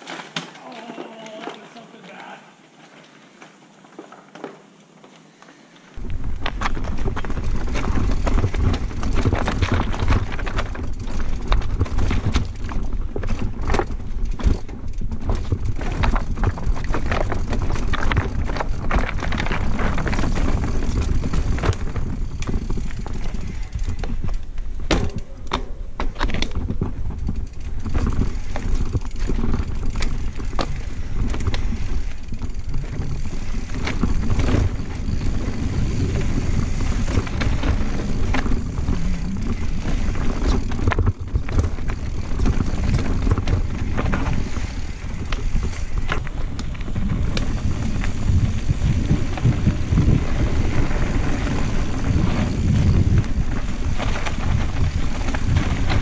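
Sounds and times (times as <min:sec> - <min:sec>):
bike rattling over rocks: 0:00.0 - 0:02.4, 0:06.0 - 0:56.0
tyres rumbling on dirt: 0:06.0 - 0:56.0.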